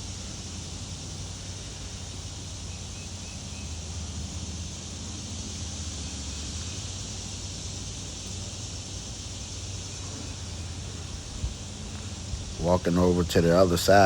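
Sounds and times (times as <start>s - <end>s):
hiss: 0.0s - 14.0s.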